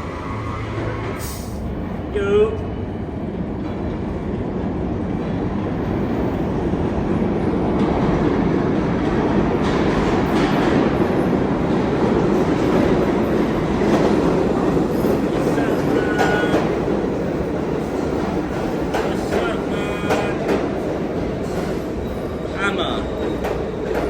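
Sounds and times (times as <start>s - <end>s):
subway train rumbling on rails: 0.0s - 24.0s.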